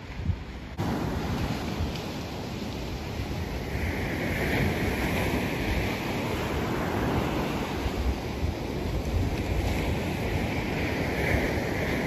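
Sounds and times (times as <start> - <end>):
sea waves breaking on beach: 0.0 - 12.0
wind buffeting microphone: 0.0 - 12.0.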